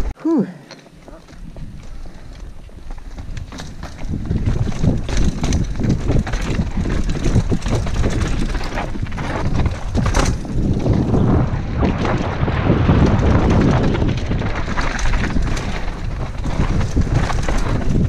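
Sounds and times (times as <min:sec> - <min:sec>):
bike knocking and clattering: 0:00.7 - 0:18.0
bike tyres on dirt: 0:00.9 - 0:18.0
wind buffeting on microphone: 0:01.4 - 0:18.0.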